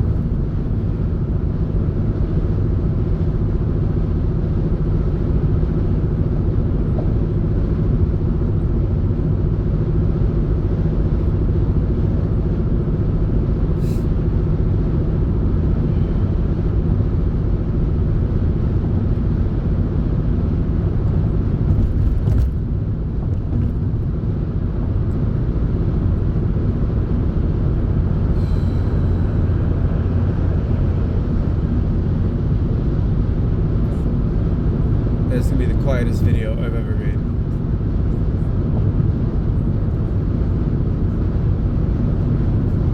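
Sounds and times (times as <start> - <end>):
car cabin road rumble: 0.0 - 42.9.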